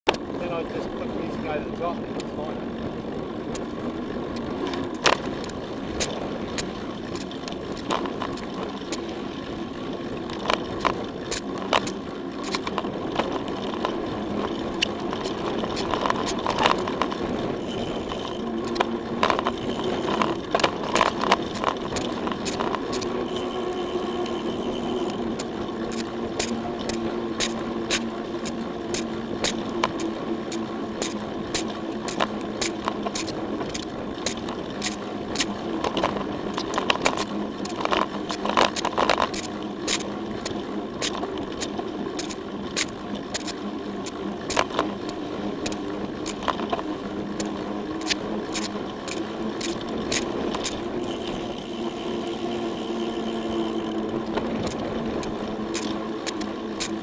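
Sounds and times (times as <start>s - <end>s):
tyre and wind noise: 0.0s - 57.0s
bike clicks and rattles: 0.1s - 57.0s
thin whine: 0.1s - 57.0s.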